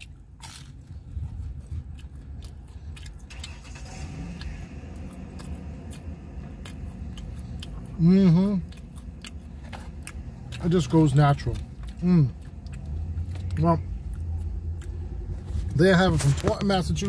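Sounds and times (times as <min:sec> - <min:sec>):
low steady rumble: 0:00.0 - 0:17.0
person chewing crispy crust: 0:00.0 - 0:17.0.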